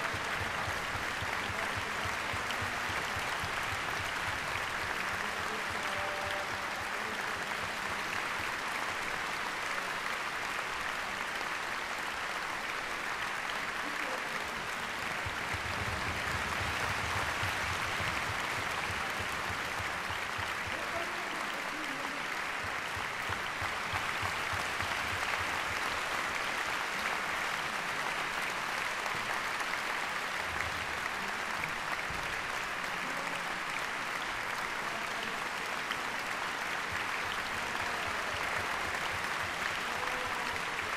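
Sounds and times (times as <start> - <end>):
audience applauding: 0.0 - 40.9.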